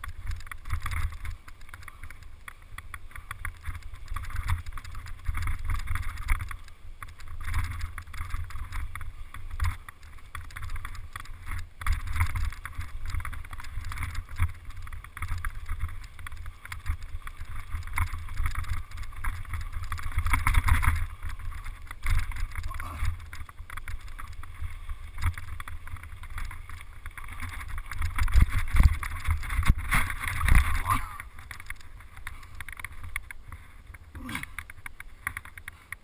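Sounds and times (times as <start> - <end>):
bike tyres rattling over bumps: 0.0 - 36.0.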